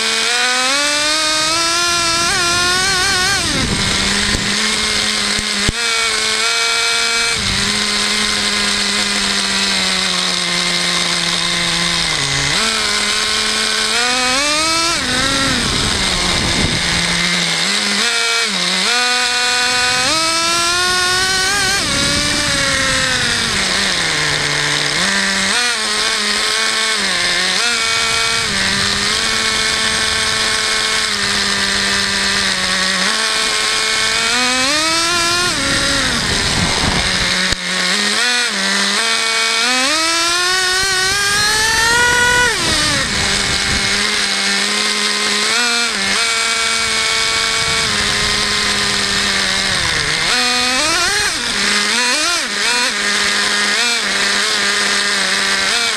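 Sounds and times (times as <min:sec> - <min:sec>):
model car engine revving: 0:00.0 - 0:55.9.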